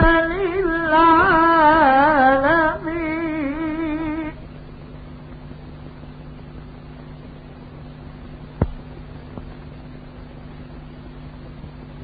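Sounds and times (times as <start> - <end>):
recording hiss and hum: 0.0 - 12.0.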